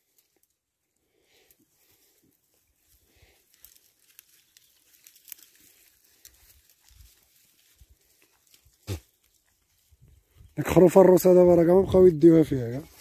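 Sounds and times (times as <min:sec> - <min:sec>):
grass and twigs crackling: 0:00.0 - 0:13.0.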